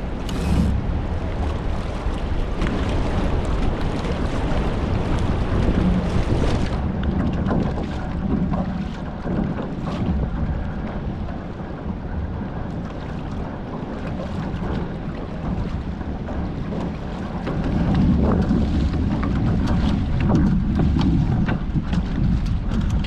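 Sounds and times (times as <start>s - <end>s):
water rushing and splashing: 0.0s - 23.0s
wind buffeting microphone: 0.0s - 23.0s.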